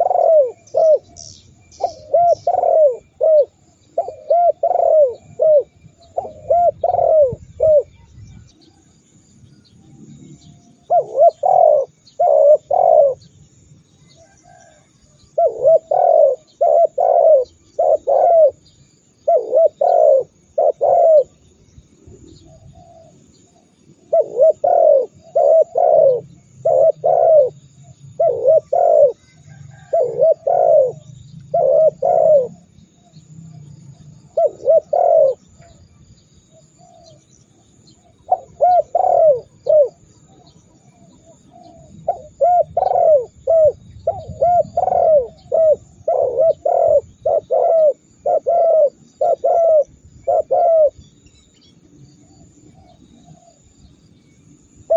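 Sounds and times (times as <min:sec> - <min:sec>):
dove cooing: 0:00.0 - 0:08.8, 0:10.7 - 0:13.4, 0:14.1 - 0:35.8, 0:36.6 - 0:51.2, 0:52.2 - 0:53.6
faint high chirps: 0:00.0 - 0:54.5.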